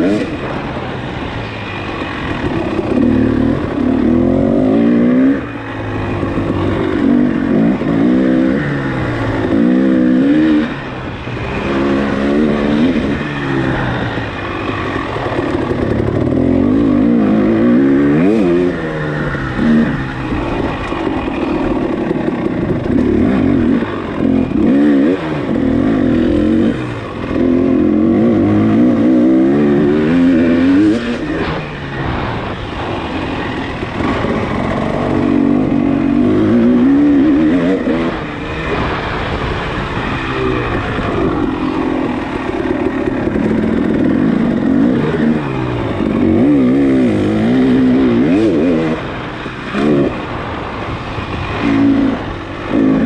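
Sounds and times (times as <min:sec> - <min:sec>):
off-road motorcycle engine revving: 0:00.0 - 0:53.0.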